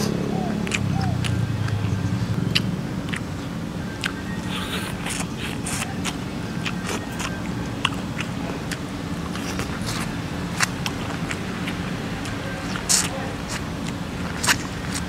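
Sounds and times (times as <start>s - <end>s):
person chewing corn: 0.0s - 15.0s.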